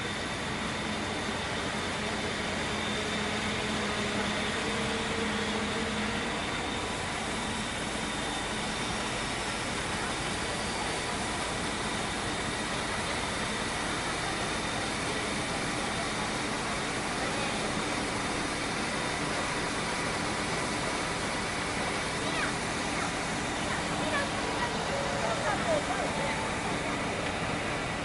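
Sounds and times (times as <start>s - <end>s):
steam hissing: 0.0s - 28.0s
steam locomotive rumble: 0.0s - 28.0s.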